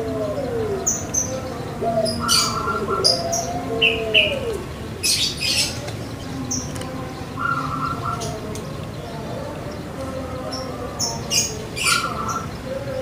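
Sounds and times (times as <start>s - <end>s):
dove cooing: 0.0s - 13.0s
small birds chirping: 0.0s - 13.0s.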